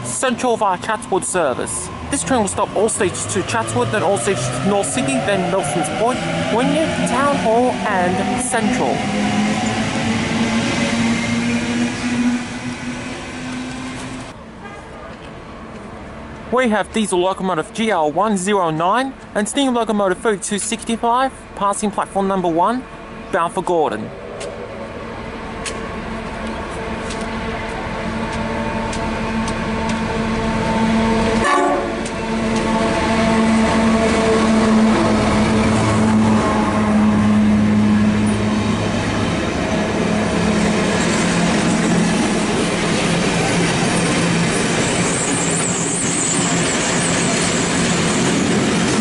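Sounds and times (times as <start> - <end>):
train wheels rumbling on rails: 0.0 - 14.4, 22.8 - 49.0
electric train hum: 0.0 - 16.5, 21.4 - 49.0.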